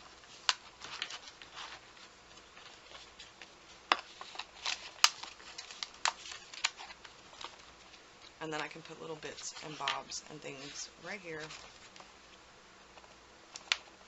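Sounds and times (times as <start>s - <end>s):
paper rustling and sliding: 0.0s - 12.1s.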